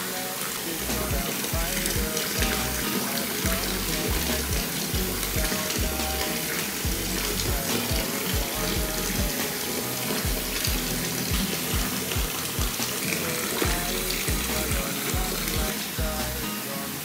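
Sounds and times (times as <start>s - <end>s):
tap water pouring into bathtub: 0.0s - 16.6s
music with steady beat: 0.0s - 17.0s.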